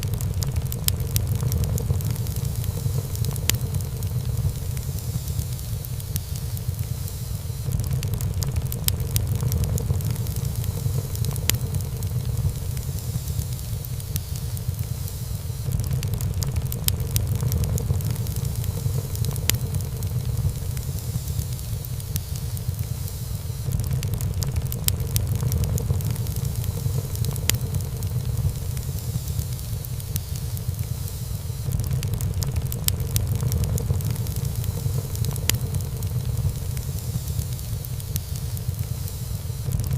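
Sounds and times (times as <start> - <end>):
fire crackles and pops: 0.0 - 39.9
low rumble of flames: 0.0 - 39.9.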